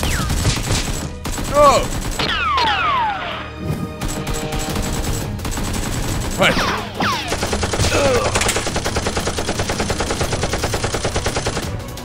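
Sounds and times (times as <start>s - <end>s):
automatic gunfire: 0.0s - 2.5s, 4.0s - 11.8s.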